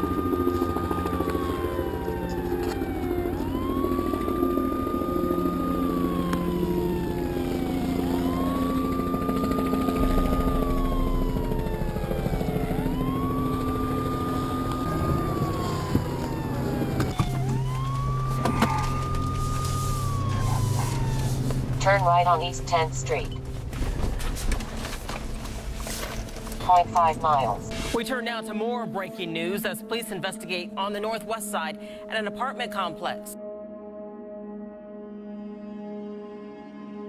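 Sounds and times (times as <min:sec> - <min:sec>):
siren wailing: 0:00.0 - 0:25.2, 0:25.9 - 0:33.4
low steady drone: 0:00.0 - 0:32.1.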